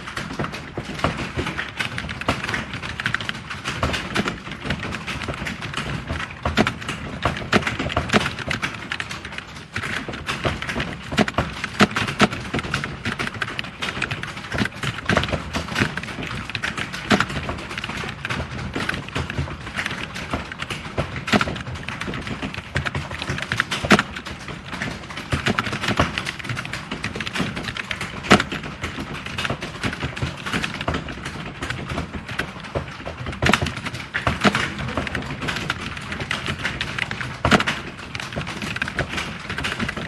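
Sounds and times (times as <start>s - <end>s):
fast typing on keyboard: 0.0s - 40.0s.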